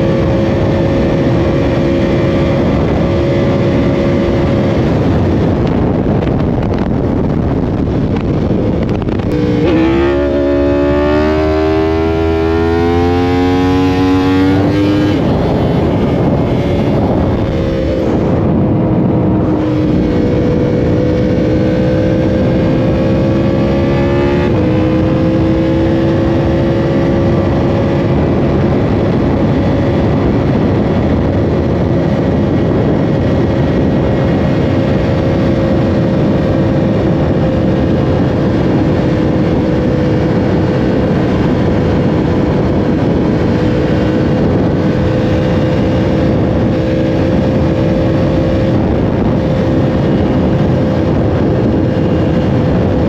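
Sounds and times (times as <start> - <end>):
motorcycle engine at high revs: 0.0 - 53.0
wind rush: 0.0 - 53.0.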